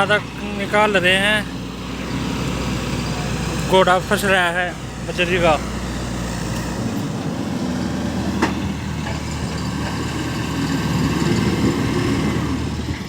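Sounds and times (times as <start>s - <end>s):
heavy diesel engine straining: 0.0s - 13.0s.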